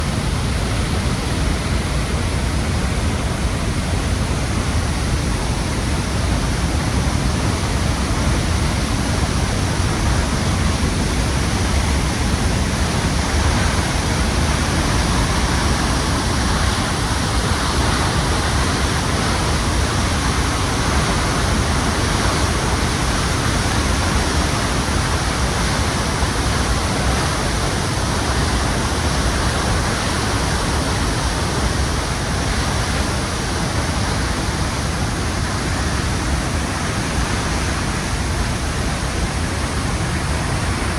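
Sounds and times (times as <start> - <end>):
deep rumble of water: 0.0 - 40.9
waterfall roaring: 0.0 - 40.9.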